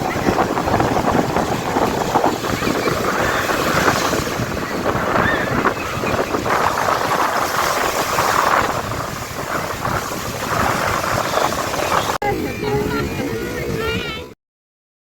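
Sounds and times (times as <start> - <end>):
water rushing past boat: 0.0 - 13.8
wind buffeting microphone: 0.0 - 14.3.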